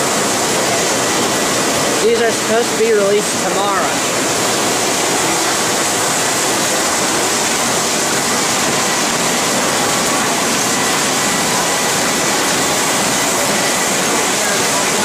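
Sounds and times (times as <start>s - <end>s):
factory machinery and conveyors: 0.0s - 15.0s.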